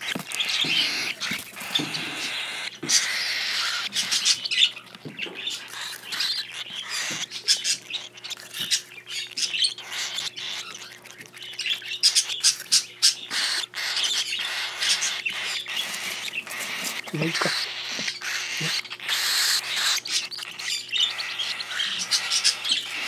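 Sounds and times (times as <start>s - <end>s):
cockatiel chicks begging calls: 0.0s - 23.0s.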